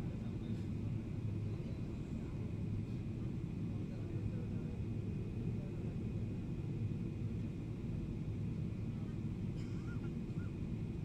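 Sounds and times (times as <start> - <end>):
low rumble of engines and airflow: 0.0 - 11.0.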